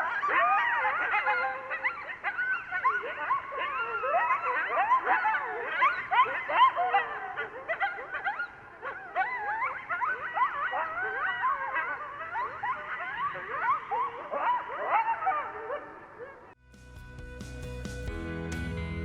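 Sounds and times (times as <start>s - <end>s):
coyotes yipping and howling: 0.0s - 16.6s.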